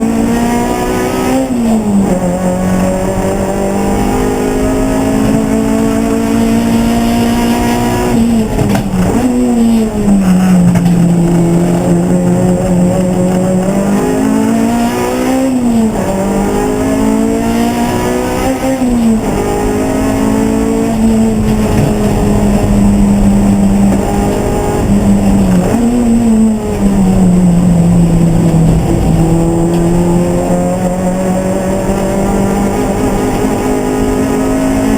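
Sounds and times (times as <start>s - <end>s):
race car engine shifting gears: 0.0s - 34.9s.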